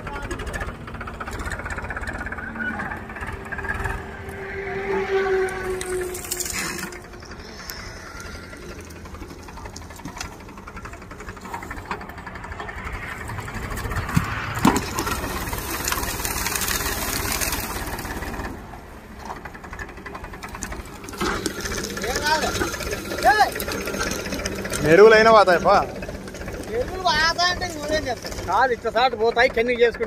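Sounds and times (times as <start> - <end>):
diesel tractor engine knocking: 0.0 - 4.7, 6.9 - 30.0.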